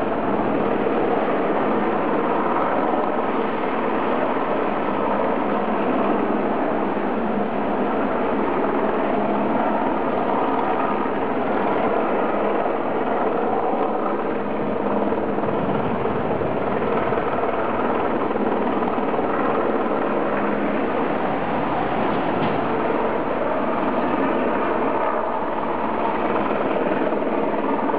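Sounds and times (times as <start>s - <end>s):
model helicopter rotor and motor: 0.0s - 27.9s.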